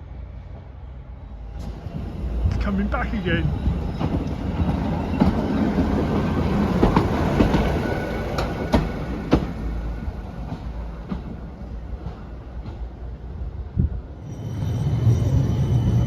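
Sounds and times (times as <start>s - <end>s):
railcar rumbling along track: 0.0s - 16.0s.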